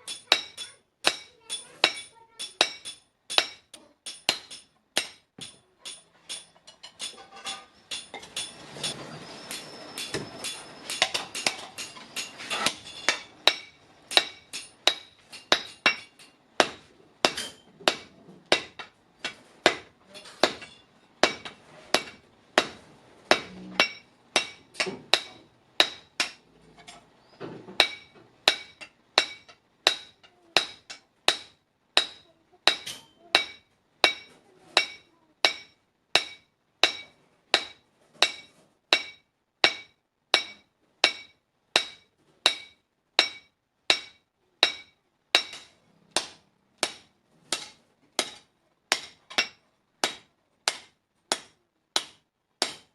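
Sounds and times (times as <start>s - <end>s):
hammer striking steel on anvil: 0.0s - 26.4s, 27.7s - 52.9s
steady background noise: 0.0s - 52.9s.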